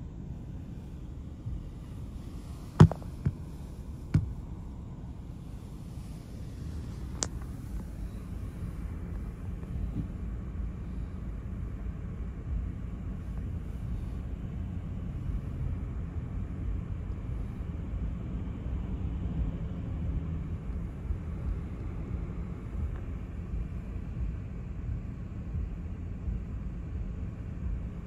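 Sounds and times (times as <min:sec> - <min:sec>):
low rumble of road traffic: 0:00.0 - 0:28.0.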